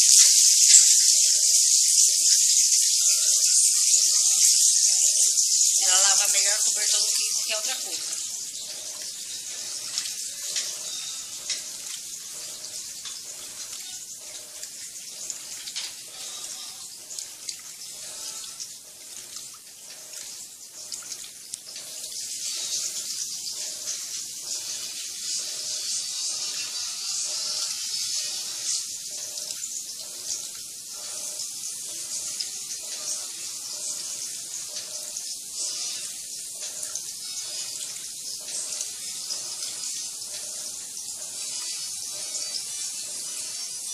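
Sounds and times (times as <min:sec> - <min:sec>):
water splashing in washing machine: 0:00.0 - 0:43.9.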